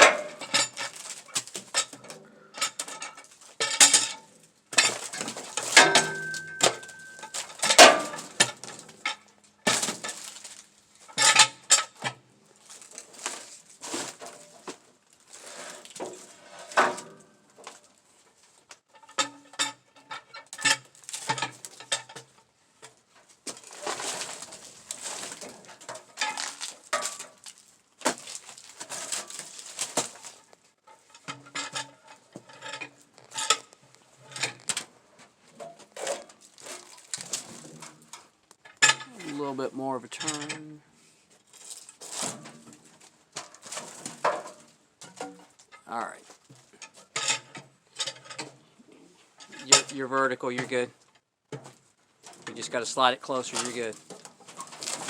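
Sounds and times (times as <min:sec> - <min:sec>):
metal parts and tools clanking: 0:00.0 - 0:18.0, 0:18.8 - 0:40.8, 0:41.4 - 0:50.9, 0:51.5 - 0:55.0.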